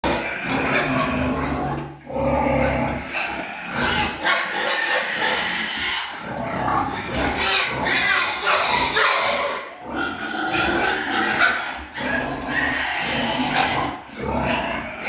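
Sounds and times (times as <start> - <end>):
pigs squealing and grunting: 0.0 - 15.0.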